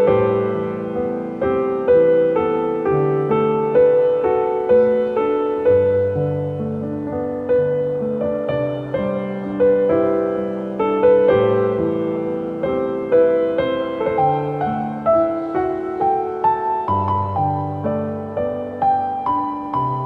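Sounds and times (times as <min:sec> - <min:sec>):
soft solo piano music: 0:00.0 - 0:20.0.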